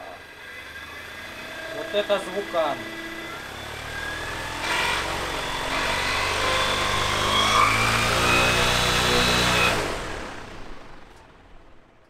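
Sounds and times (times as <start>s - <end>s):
propeller drone with motor whine: 0.0s - 12.0s.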